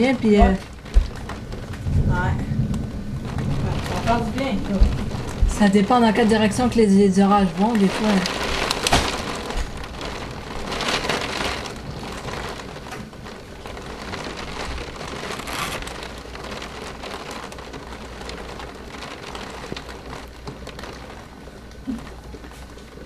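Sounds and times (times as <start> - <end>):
heavy rain on window glass: 0.0 - 23.0.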